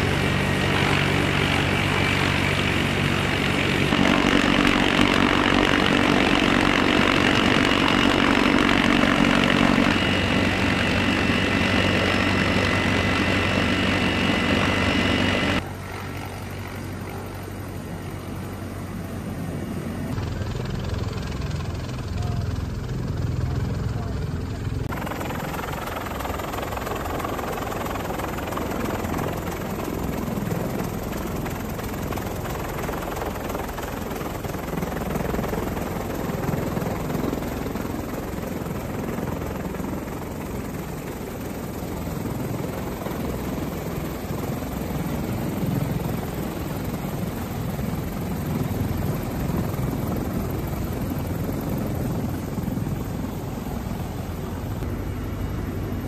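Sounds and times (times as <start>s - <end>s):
helicopter engine and rotor noise: 0.0s - 56.0s.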